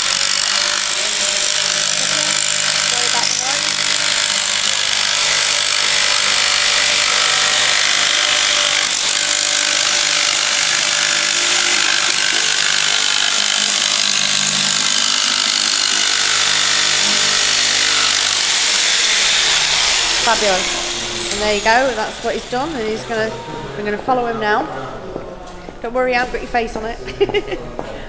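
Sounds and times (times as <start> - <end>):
power tool cutting wall panel: 0.0 - 23.1.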